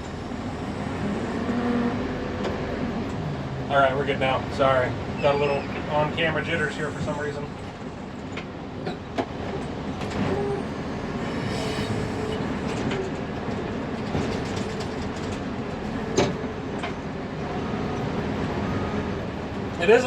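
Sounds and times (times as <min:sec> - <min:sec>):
diesel engine under load: 0:00.0 - 0:20.0.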